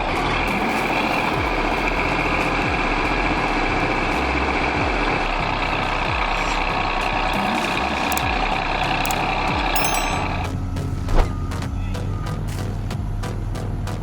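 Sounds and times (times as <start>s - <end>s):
diesel engine running: 0.0s - 11.5s.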